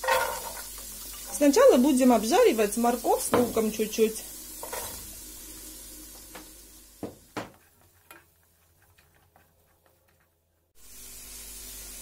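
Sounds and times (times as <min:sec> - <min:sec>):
clicks of vegetables being stirred: 0:00.0 - 0:05.3, 0:06.0 - 0:10.8
vegetables frying in a pan: 0:00.0 - 0:09.1, 0:10.8 - 0:12.0.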